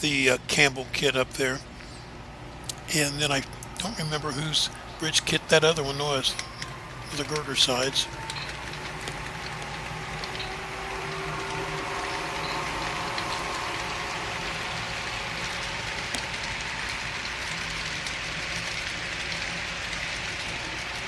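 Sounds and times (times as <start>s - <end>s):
faint hum: 0.0s - 21.0s
model train wheels rolling: 3.0s - 21.0s.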